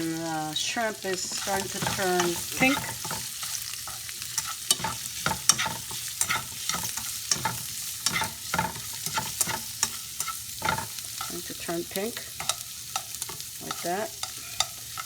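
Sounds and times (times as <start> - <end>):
shrimp sizzling in a pan: 0.0 - 15.0
utensil scraping pan: 1.1 - 15.0.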